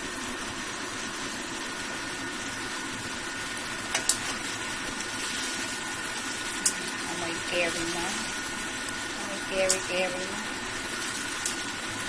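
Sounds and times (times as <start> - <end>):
pot simmering hiss: 0.0 - 12.0.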